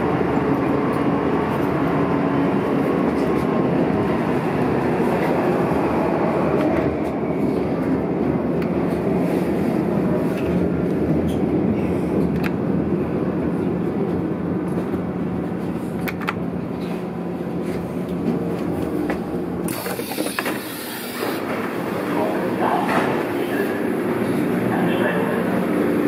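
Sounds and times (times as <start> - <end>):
train rumbling in tunnel: 0.0 - 26.0.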